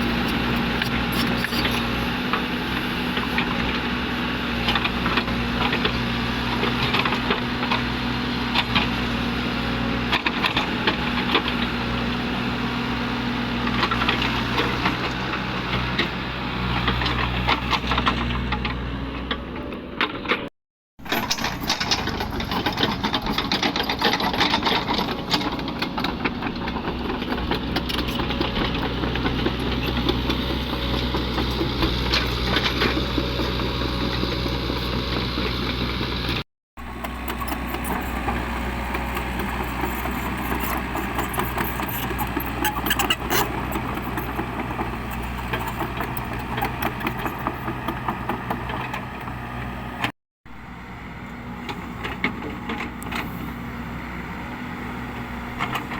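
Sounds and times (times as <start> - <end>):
excavator diesel engine running: 0.0 - 20.4, 21.0 - 55.9.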